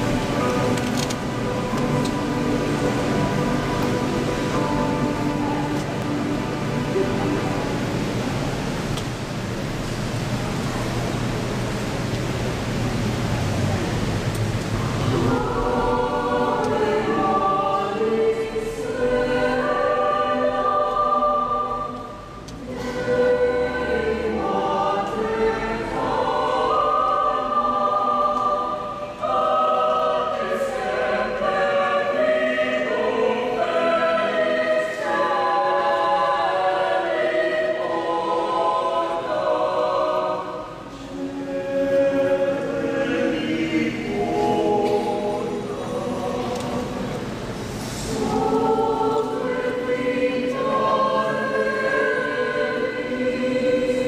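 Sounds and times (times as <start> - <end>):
mixed choir singing: 0.0 - 8.9, 14.7 - 54.0.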